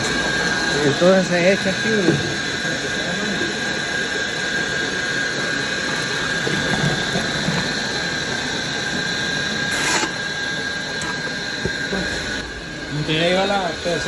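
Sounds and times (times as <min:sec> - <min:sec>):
drum mixer motor whining: 0:00.0 - 0:14.0.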